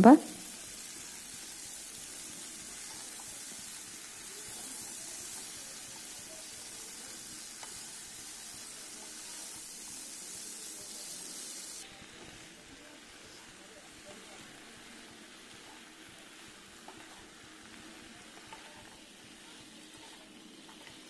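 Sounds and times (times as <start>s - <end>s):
vegetables sizzling in hot oil: 0.0s - 21.0s
spatula stirring in pan: 0.6s - 21.0s.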